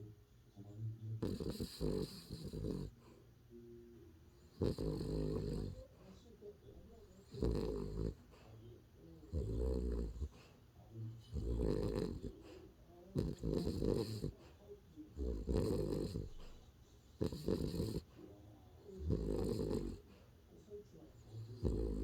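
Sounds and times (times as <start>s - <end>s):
dog snoring: 0.9s - 3.2s, 4.3s - 20.3s, 21.0s - 22.0s.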